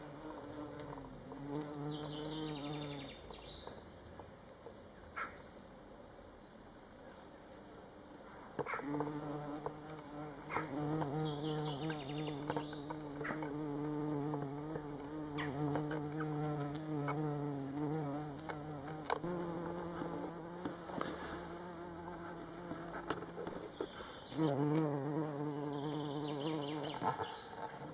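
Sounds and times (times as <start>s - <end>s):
bumblebee buzzing: 0.0s - 3.6s, 8.7s - 27.9s.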